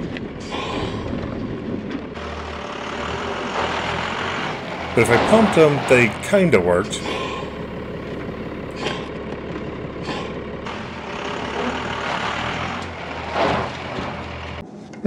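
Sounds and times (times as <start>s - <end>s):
diesel engine running: 0.0s - 14.7s.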